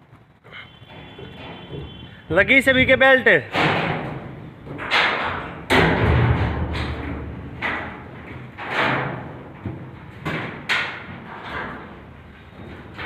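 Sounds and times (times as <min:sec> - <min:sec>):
heavy thumps in steel container: 0:00.9 - 0:12.0.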